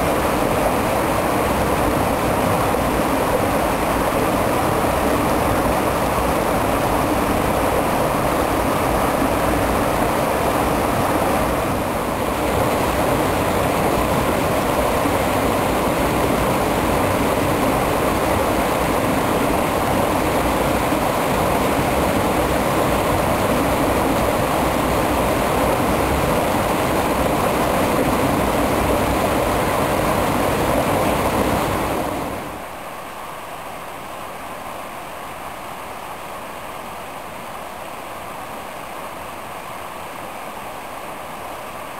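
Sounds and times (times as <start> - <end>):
stream water rushing: 0.0 - 41.9.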